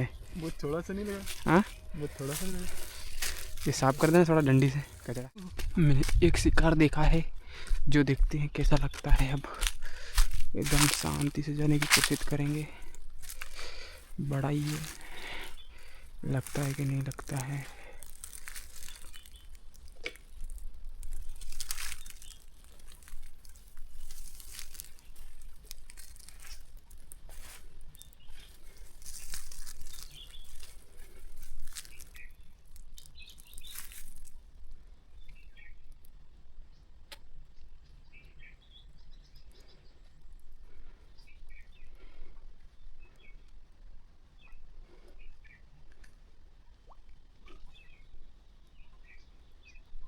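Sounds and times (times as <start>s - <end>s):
birds chirping: 0.0s - 5.4s, 6.7s - 50.0s
rustling dry vegetation: 0.0s - 45.6s.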